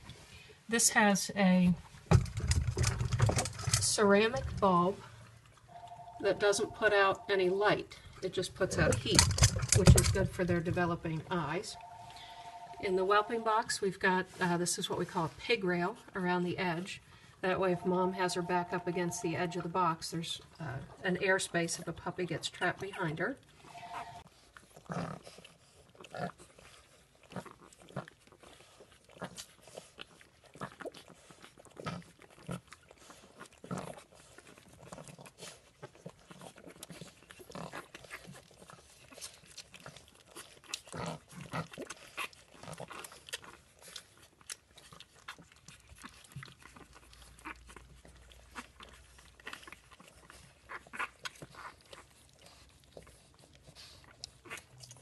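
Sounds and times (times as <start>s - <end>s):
puppies suckling: 0.0s - 55.0s.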